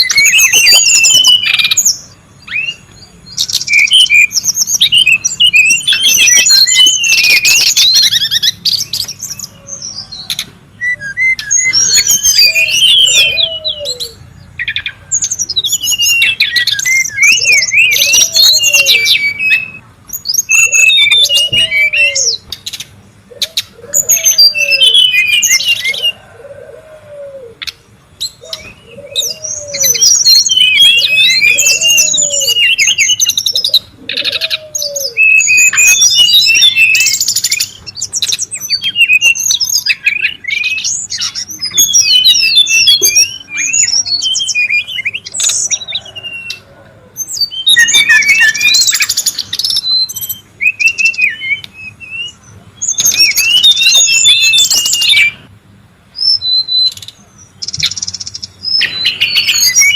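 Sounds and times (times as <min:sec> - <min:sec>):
bird warbling song: 0:00.0 - 0:59.9.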